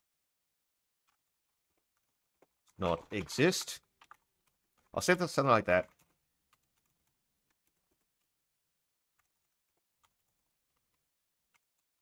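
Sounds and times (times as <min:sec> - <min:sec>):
faint keyboard typing: 0:01.0 - 0:12.0.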